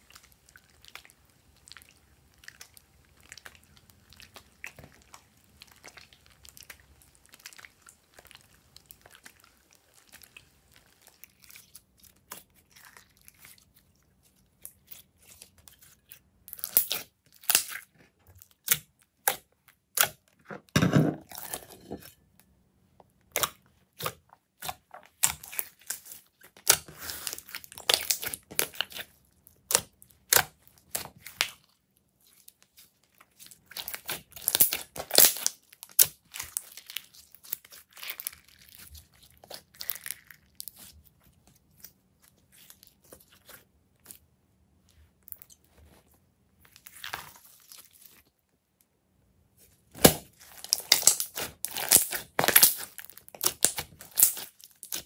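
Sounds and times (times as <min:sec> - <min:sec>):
sticky slime crackles: 0:00.0 - 0:20.2, 0:23.2 - 0:46.0, 0:46.6 - 0:48.4, 0:49.6 - 0:55.0
slime squelch: 0:00.0 - 0:48.8, 0:49.5 - 0:55.0.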